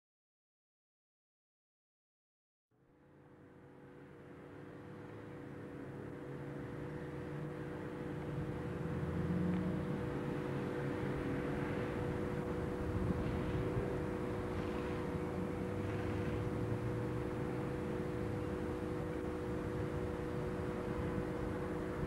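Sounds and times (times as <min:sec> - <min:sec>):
diesel locomotive engine drone: 0:02.8 - 0:22.0.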